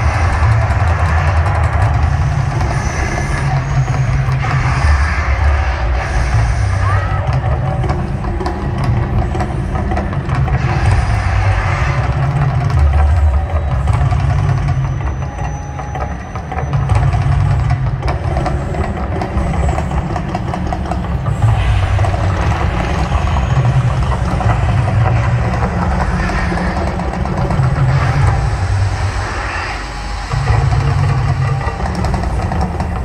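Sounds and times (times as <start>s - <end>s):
deep rumble of fire jets: 0.0s - 33.0s.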